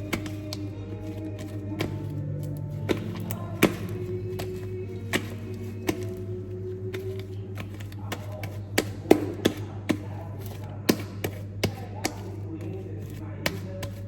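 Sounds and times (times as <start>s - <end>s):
slime being kneaded: 0.0s - 14.0s.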